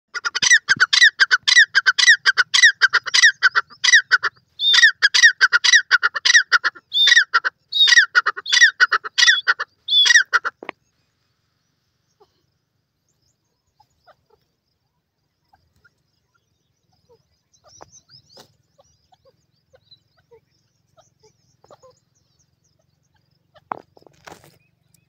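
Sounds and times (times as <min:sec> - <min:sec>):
francolin calling: 0:00.1 - 0:25.0.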